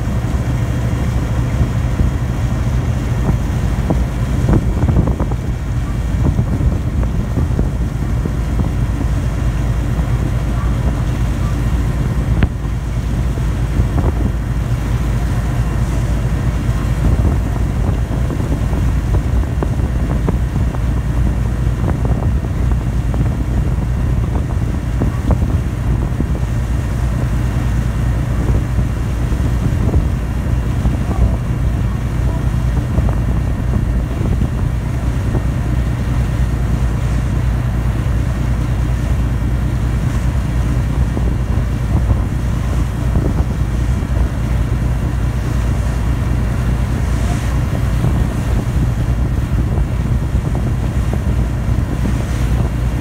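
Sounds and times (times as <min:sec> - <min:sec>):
ferry engine drone: 0:00.0 - 0:53.0
sea water rushing: 0:00.0 - 0:53.0
wind noise on microphone: 0:00.0 - 0:53.0.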